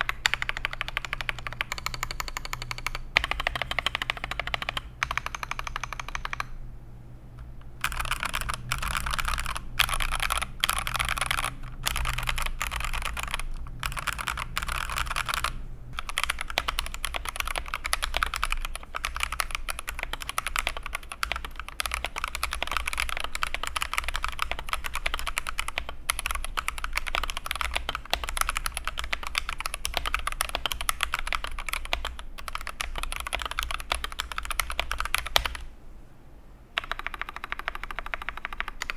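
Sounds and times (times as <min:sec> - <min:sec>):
mechanical keyboard key clacking: 0:00.0 - 0:06.5, 0:07.8 - 0:35.6, 0:36.8 - 0:38.9.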